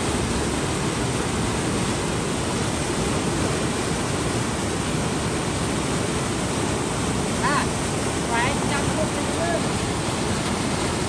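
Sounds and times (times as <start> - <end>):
water rushing from sluice gates: 0.0 - 11.0.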